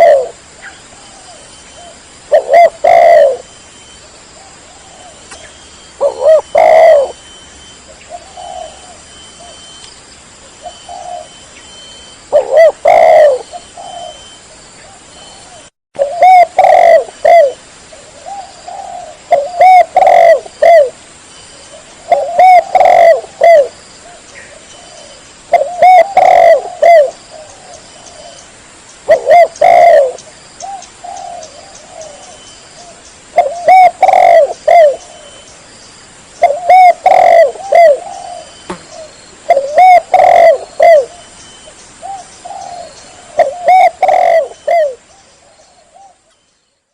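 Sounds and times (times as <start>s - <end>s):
dove cooing: 0.0s - 3.5s, 4.4s - 9.8s, 10.6s - 21.0s, 21.7s - 28.4s, 29.0s - 35.5s, 36.4s - 46.3s.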